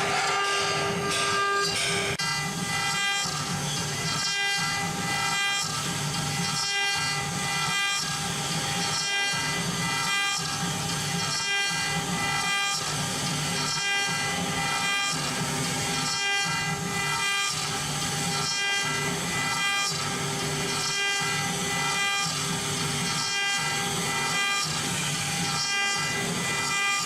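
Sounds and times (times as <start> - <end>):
router bit cutting material: 0.0 - 27.0
router spindle whine: 0.0 - 27.0.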